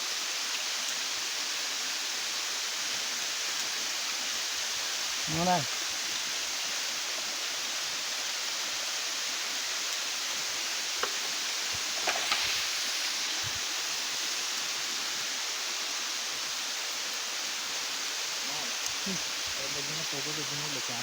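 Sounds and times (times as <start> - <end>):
waterfall rushing: 1.4 - 21.0.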